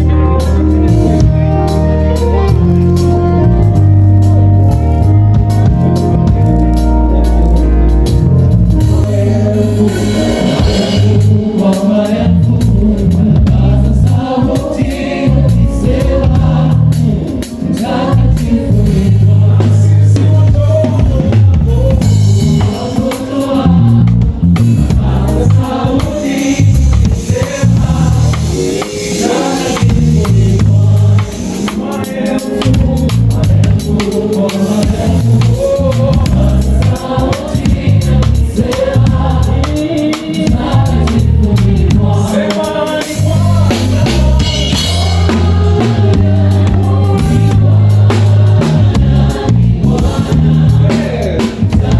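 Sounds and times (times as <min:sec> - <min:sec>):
gospel band playing: 0:00.0 - 0:51.9
choir singing: 0:07.2 - 0:51.9.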